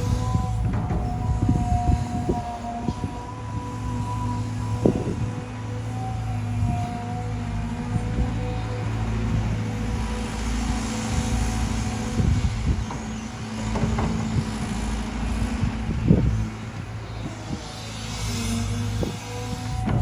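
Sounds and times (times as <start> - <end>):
knocks and clanks: 0.0 - 5.3, 9.1 - 20.0
excavator diesel engine running: 0.0 - 20.0.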